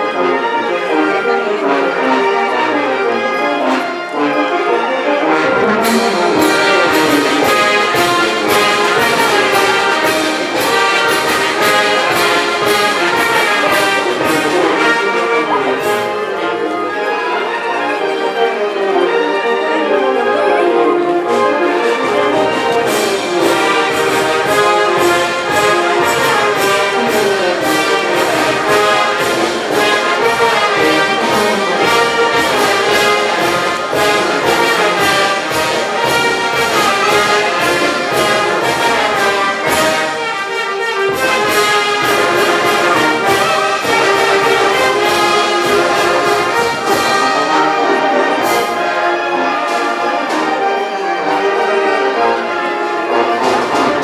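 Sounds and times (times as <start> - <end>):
brass band playing dance music: 0.0 - 54.0.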